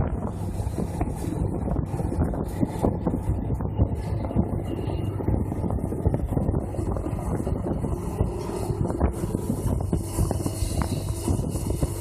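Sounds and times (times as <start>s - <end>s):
excavator diesel engine running: 0.0s - 12.0s
wind buffeting microphone: 0.0s - 12.0s.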